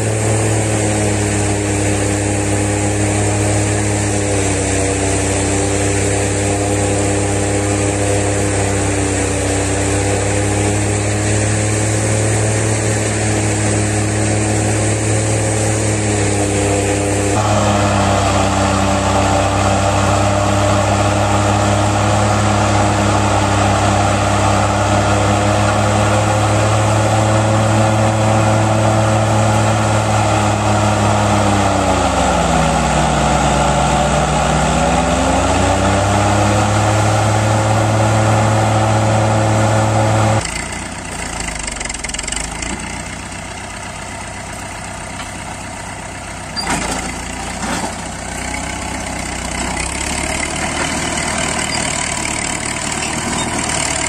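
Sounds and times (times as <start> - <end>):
tractor engine running at high revs: 0.0 - 54.0.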